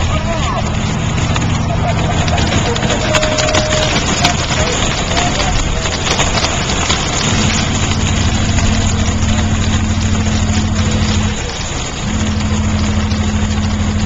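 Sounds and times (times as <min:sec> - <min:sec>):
road and engine noise: 0:00.0 - 0:14.0.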